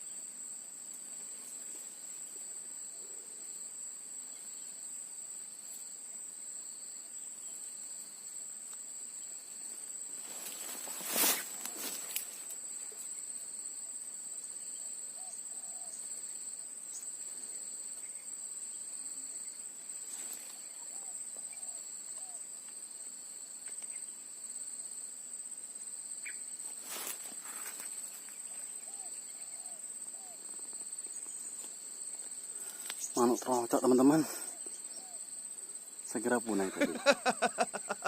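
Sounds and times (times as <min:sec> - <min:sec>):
insect chorus drone: 0:00.0 - 0:38.0.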